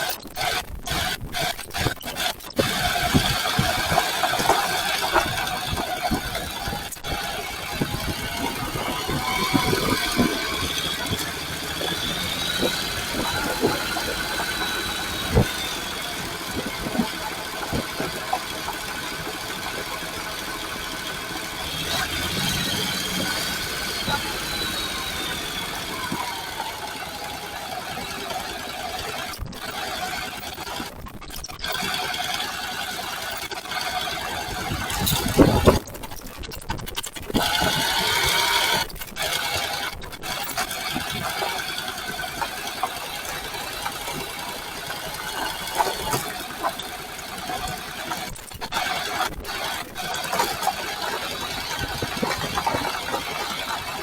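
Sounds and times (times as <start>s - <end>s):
motorcycle engine running: 0.0s - 30.9s, 37.2s - 54.0s.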